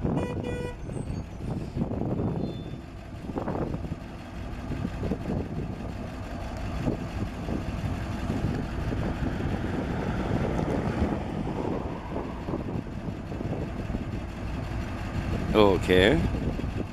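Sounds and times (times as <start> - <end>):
bus engine idling: 0.0 - 16.9.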